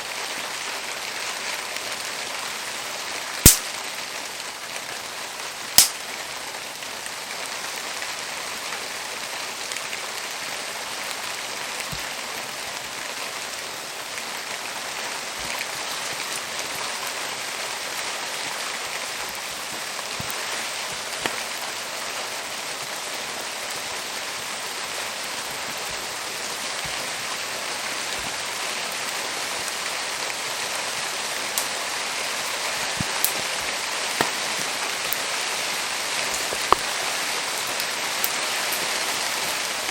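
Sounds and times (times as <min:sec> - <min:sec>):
steady rain falling: 0:00.0 - 0:39.9
campfire popping and crackling: 0:00.1 - 0:39.9.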